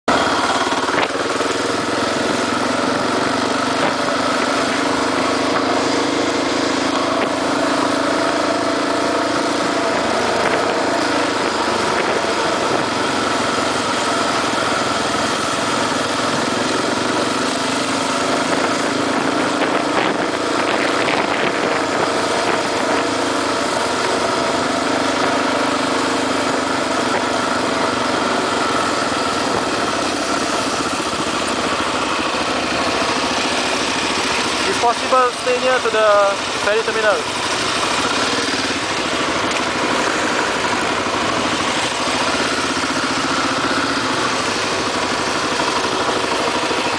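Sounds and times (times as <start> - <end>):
motorcycle engine running: 0.0 - 46.9
wind and road noise: 0.1 - 46.9.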